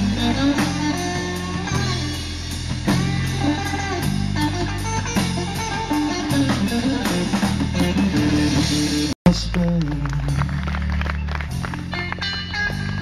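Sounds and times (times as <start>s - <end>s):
bass guitar: 0.0s - 13.0s
electric guitar lead lines: 0.0s - 13.0s
steady drum beat: 0.0s - 13.0s.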